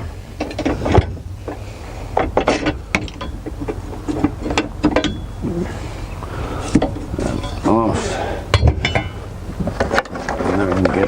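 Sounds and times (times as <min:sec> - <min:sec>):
metal knocks and clunks: 0:00.0 - 0:11.0.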